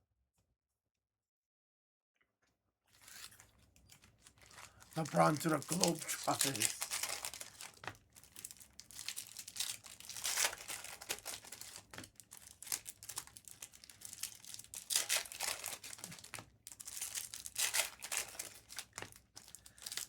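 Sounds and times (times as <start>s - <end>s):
card pack wrappers crinkling: 3.0s - 20.0s.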